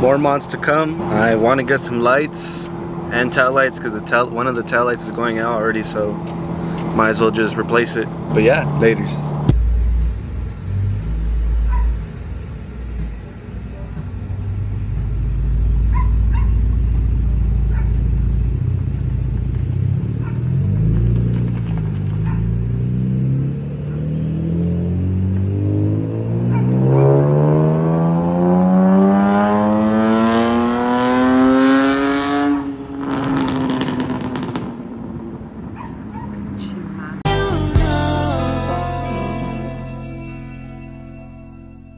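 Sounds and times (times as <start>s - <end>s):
car engine revving: 0.0s - 36.6s, 38.1s - 41.7s.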